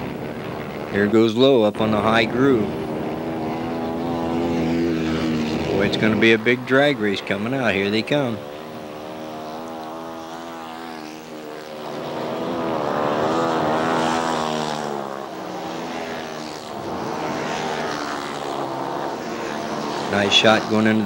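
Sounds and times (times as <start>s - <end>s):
motorcycles racing past: 0.0s - 21.0s.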